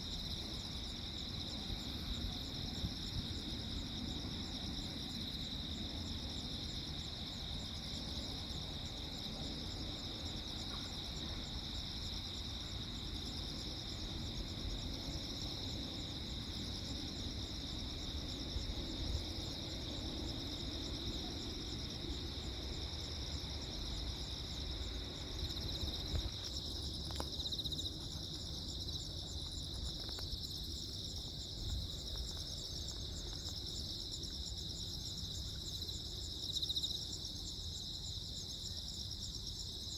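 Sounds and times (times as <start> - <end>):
crickets chirping: 0.0 - 39.9
low steady background noise: 0.0 - 39.9.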